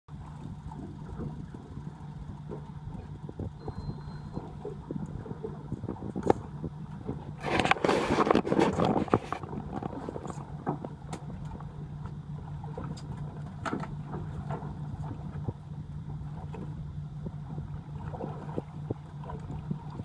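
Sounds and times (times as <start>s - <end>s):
boat engine idling: 0.1s - 20.0s
water sloshing against hull: 0.1s - 20.0s.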